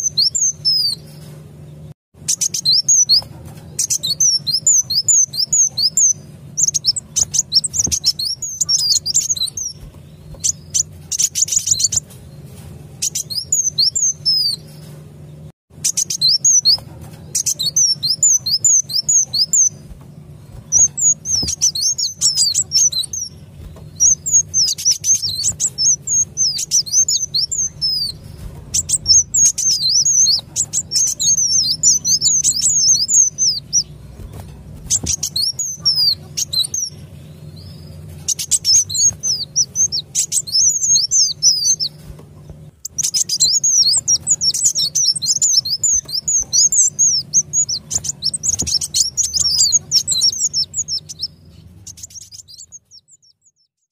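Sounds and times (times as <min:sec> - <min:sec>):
bird twittering chirps: 0:00.0 - 0:01.3, 0:02.2 - 0:53.9
faint low hum: 0:00.0 - 0:53.7.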